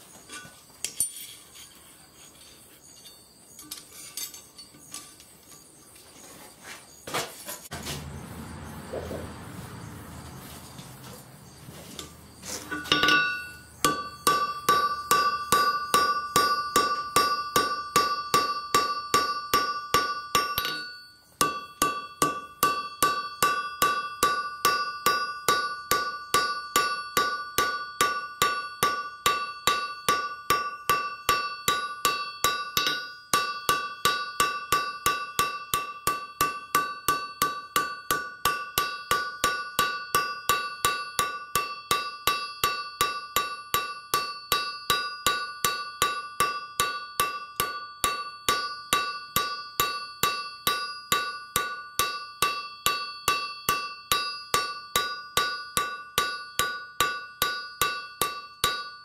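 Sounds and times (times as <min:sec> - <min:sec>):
hammer striking steel on anvil: 0:03.0 - 0:05.2, 0:12.0 - 0:59.0.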